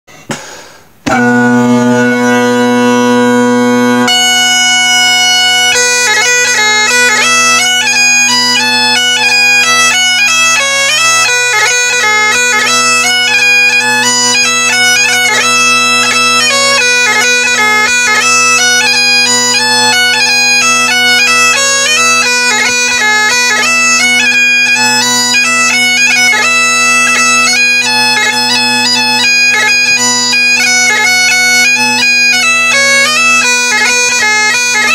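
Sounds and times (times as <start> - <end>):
bagpipe drones: 1.0 - 34.9
bagpipe march tune: 1.0 - 34.9
bagpipe squawk: 1.0 - 34.9.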